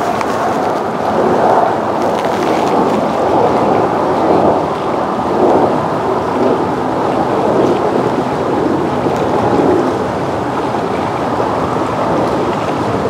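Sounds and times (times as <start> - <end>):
choppy water splashing around dock: 0.0 - 13.0
motorboat engine running: 0.0 - 13.0.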